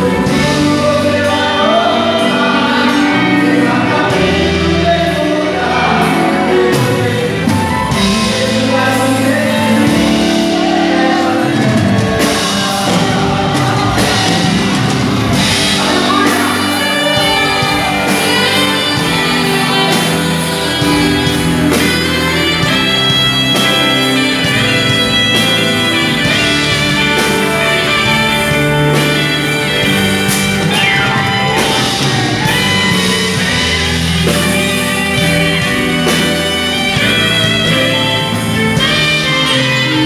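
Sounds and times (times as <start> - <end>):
drums: 0.0 - 40.0
keyboard: 0.0 - 40.0
people singing: 0.0 - 40.0
saxophone: 0.0 - 40.0.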